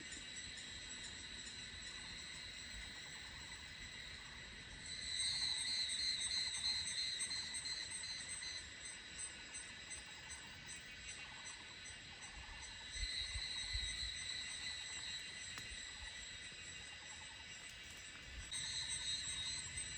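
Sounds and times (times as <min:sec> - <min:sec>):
cicada chorus: 0:00.0 - 0:19.9
loud pulsing cicada call: 0:00.0 - 0:19.9.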